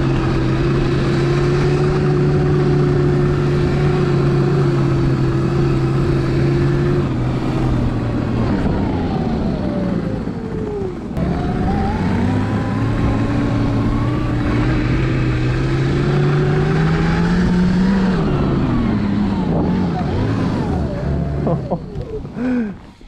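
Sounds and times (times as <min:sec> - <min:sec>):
track drive drone: 0:00.0 - 0:22.8.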